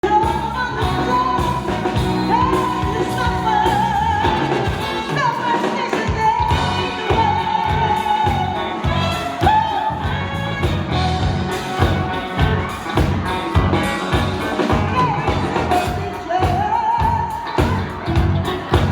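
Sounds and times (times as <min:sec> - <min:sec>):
woman singing with vibrato: 0:00.0 - 0:18.9.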